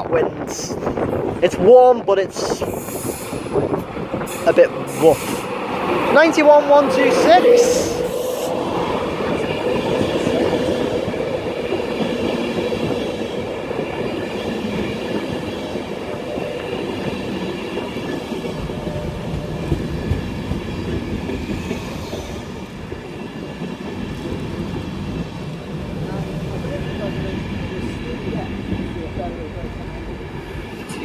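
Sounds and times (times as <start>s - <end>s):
train rolling rumble: 0.0s - 31.0s
wind buffeting microphone: 0.0s - 31.0s
high whine of locomotive: 2.3s - 31.0s.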